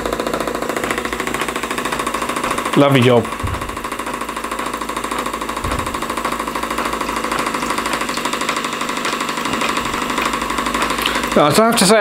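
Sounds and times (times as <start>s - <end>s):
steam engine mechanical clatter: 0.0s - 12.0s.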